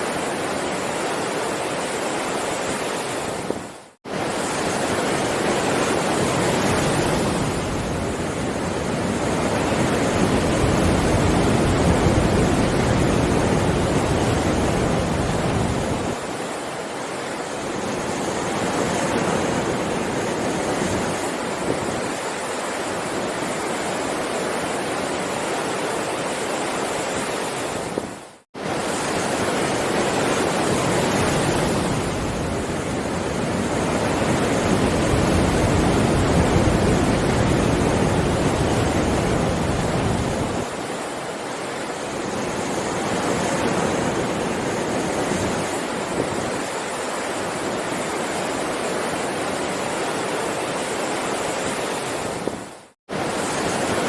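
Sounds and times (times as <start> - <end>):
heavy ocean waves rushing: 0.0 - 54.0.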